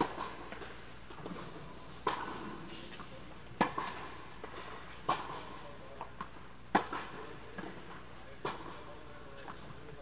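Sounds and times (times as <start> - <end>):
tennis ball racket hits: 0.0 - 9.6.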